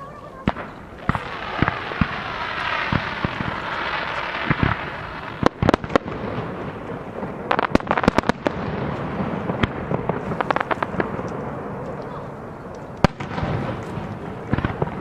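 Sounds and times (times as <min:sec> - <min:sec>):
crackling firework reports: 0:00.0 - 0:15.0
fireworks bursting with bangs: 0:00.0 - 0:15.0.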